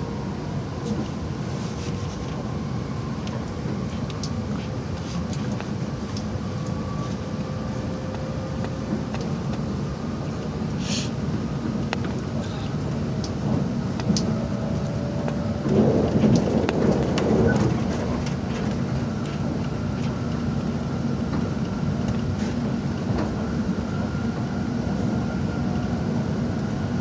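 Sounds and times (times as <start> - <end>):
train rumble with clicks: 0.0 - 27.0.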